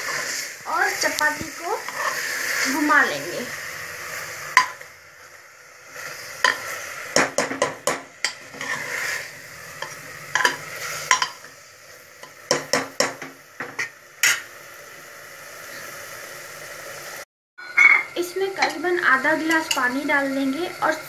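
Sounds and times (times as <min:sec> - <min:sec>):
food sizzling: 0:00.0 - 0:21.0.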